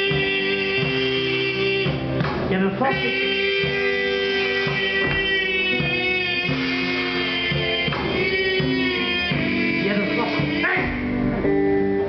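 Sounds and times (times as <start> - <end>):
bass line: 0.0 - 12.0
live band guitars playing: 0.0 - 12.0.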